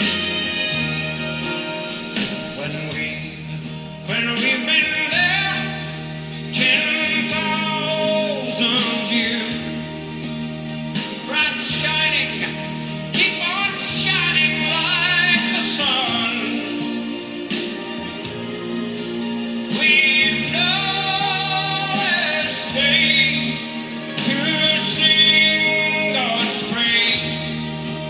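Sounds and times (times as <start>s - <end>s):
slow song with singing voice: 0.0s - 28.0s.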